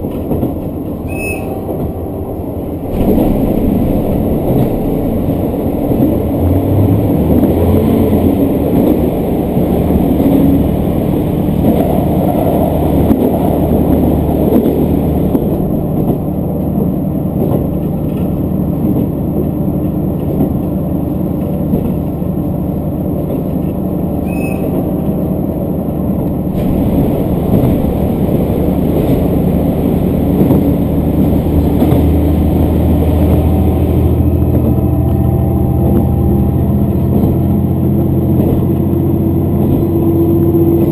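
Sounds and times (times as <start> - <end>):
diesel engine drone: 0.0 - 18.8, 19.5 - 40.9
wheels on rails: 0.0 - 22.2, 26.3 - 40.9.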